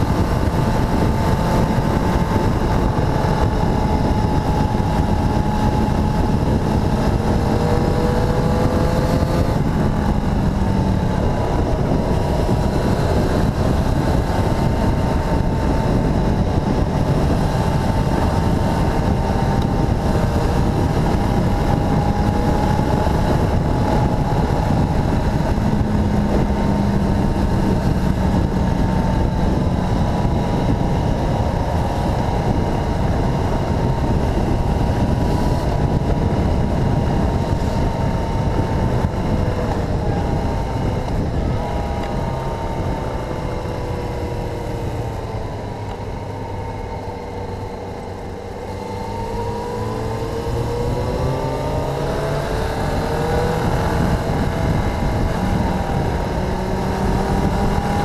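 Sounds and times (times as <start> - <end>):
motorcycle engine cruising: 0.0 - 58.0
wind on microphone: 0.0 - 58.0.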